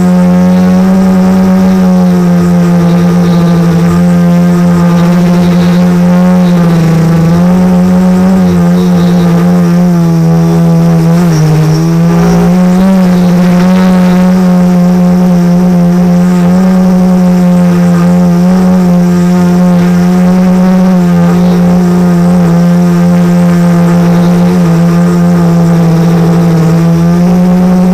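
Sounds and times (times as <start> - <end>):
drone propellers droning: 0.0 - 27.9.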